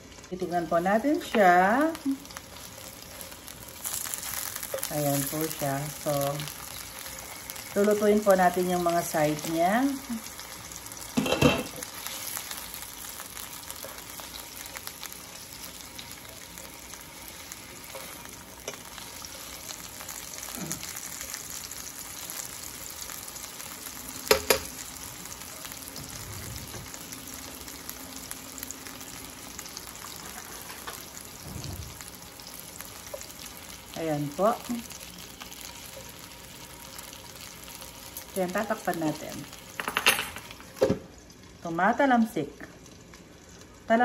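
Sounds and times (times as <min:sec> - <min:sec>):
sausages sizzling in oil: 0:00.0 - 0:44.0.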